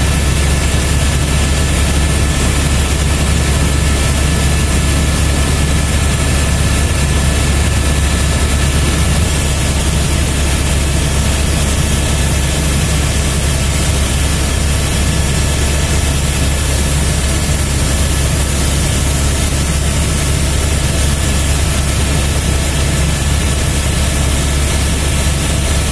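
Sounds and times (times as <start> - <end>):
helicopter rotor and engine drone: 0.0 - 25.9.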